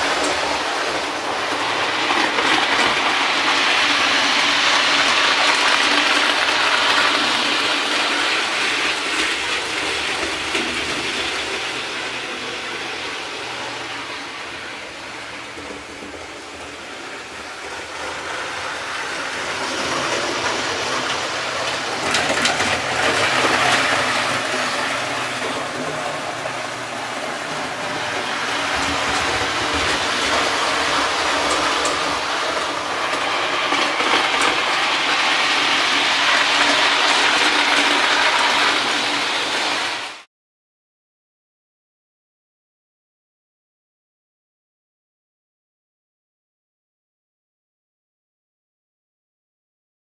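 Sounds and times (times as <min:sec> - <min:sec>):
model train running on track: 0:00.0 - 0:40.3.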